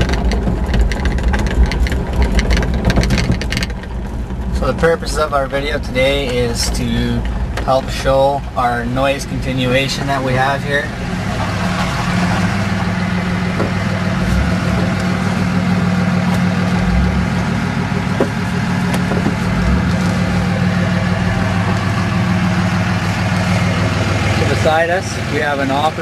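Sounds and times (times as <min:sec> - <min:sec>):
diesel pickup truck idling: 0:00.0 - 0:26.0.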